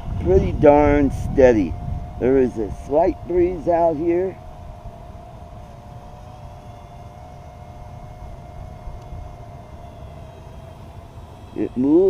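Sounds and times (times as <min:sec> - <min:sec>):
quadcopter propellers whining: 0:00.0 - 0:12.0
wind rumble on microphone: 0:00.0 - 0:12.0.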